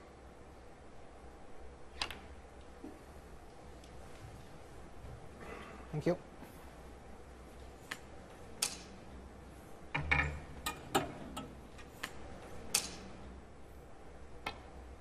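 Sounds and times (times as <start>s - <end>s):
quiet hum: 0.0s - 15.0s.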